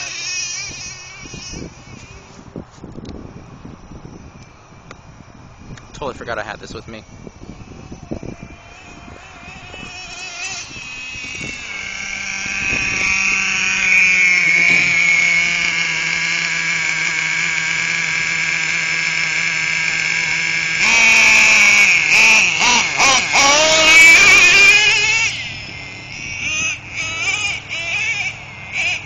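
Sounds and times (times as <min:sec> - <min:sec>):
rc truck engine revving: 0:00.0 - 0:29.0.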